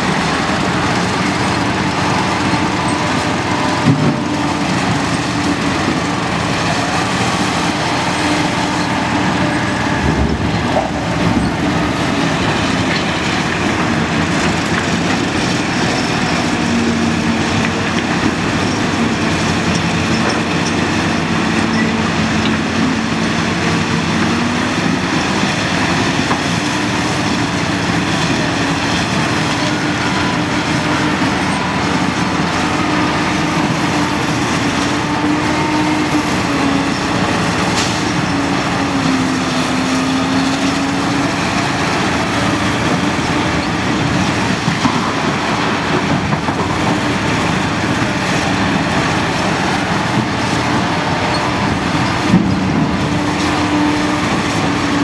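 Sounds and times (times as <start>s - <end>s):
diesel engine working hard: 0.0s - 55.0s.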